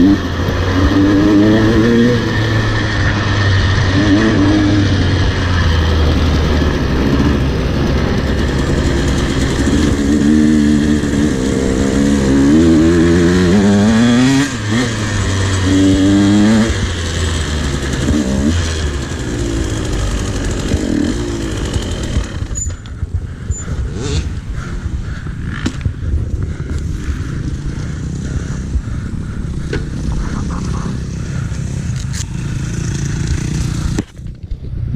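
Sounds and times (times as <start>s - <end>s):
dirt bike engine revving: 0.0s - 34.3s.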